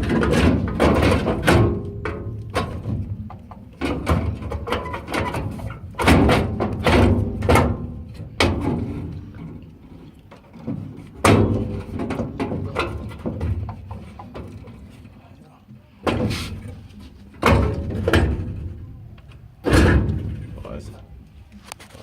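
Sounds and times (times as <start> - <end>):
metal clanks and knocks: 0.0 - 15.1, 16.0 - 21.0.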